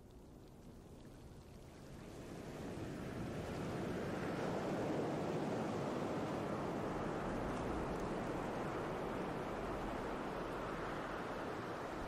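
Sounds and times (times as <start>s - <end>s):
rushing sea and wind: 1.7s - 12.0s.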